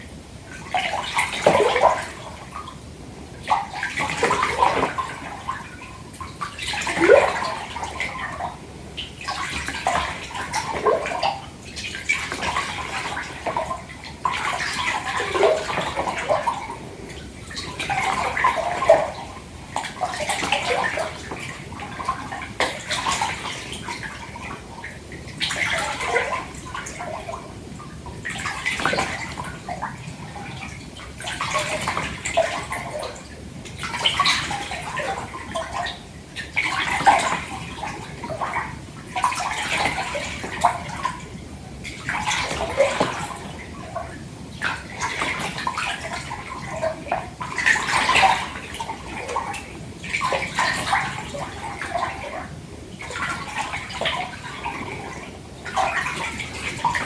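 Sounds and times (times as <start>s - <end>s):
bathtub water sloshed by hands: 0.0s - 57.0s.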